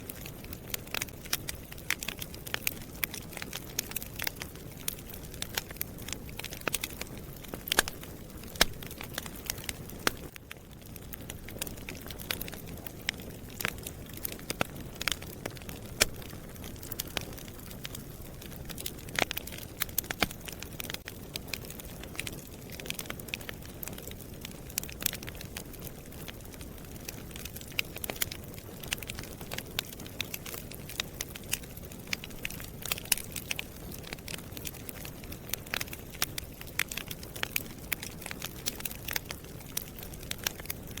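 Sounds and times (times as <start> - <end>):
fire crackling and popping: 0.0 - 41.0
wood fire hiss and rumble: 0.0 - 41.0.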